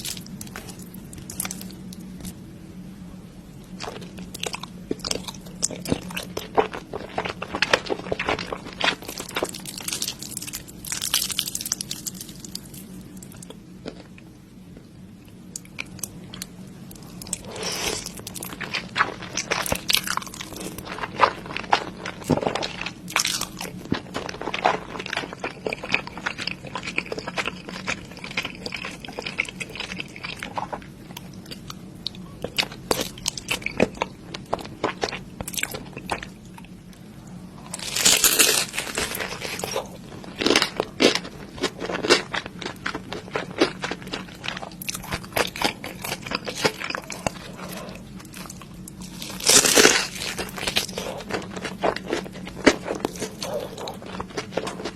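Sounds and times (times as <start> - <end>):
chewing and crunching noodles: 0.0 - 2.4, 3.8 - 36.9, 37.6 - 54.9.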